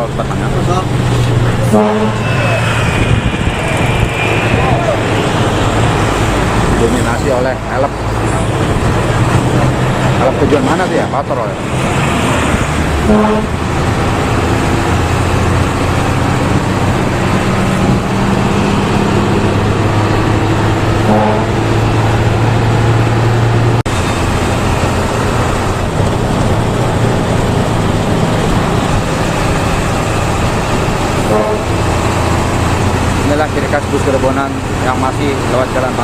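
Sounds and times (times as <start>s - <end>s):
bus engine droning: 0.0s - 36.0s
road and traffic noise: 0.0s - 36.0s.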